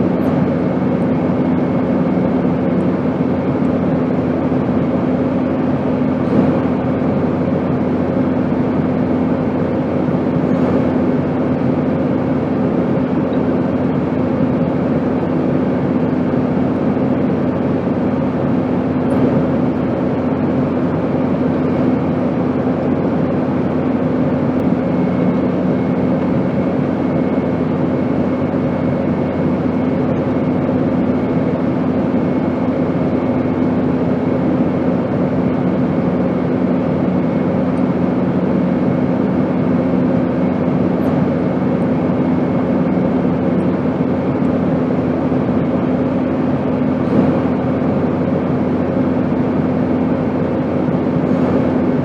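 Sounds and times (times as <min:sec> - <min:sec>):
airplane drone: 0:00.0 - 0:52.0
low hum: 0:00.0 - 0:52.0.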